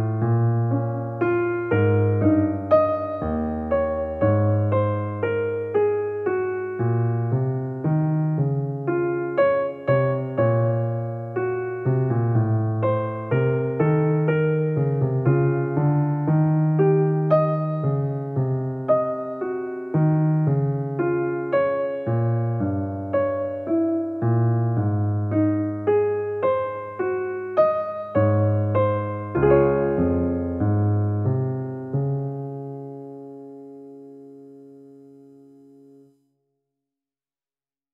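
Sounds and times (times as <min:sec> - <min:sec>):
slow keyboard melody: 0:00.0 - 0:36.2.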